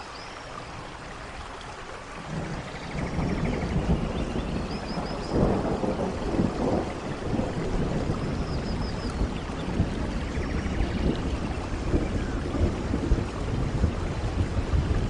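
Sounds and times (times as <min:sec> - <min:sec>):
rain on foliage: 0:00.0 - 0:15.0
low rumbling thunder: 0:02.2 - 0:15.0.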